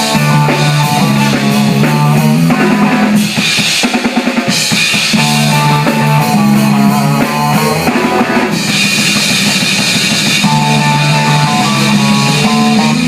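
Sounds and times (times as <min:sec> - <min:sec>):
bass drum and snare hits: 0:00.0 - 0:13.0
rock band playing: 0:00.0 - 0:13.0.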